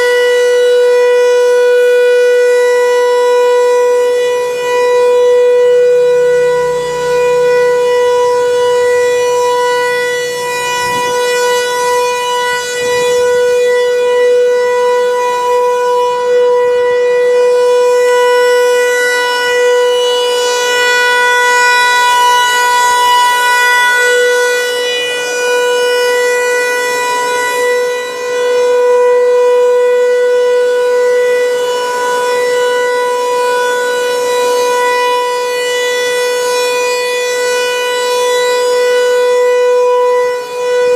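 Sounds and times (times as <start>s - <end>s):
warning siren steady tone: 0.0s - 40.9s.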